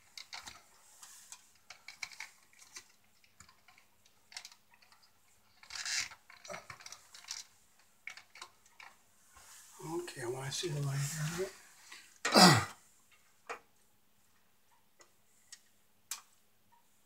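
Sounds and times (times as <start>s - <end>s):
electrical wires clicking and rustling: 0.0s - 16.9s.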